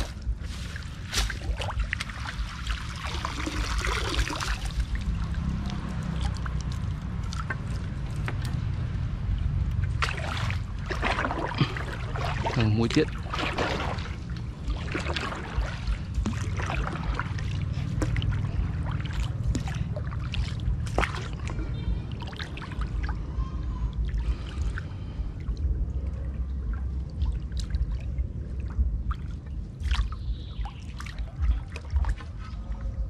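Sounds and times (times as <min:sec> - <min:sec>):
water splashing from paddle: 0:00.0 - 0:08.6, 0:09.8 - 0:23.3, 0:26.7 - 0:32.8
low rumble: 0:00.0 - 0:33.0.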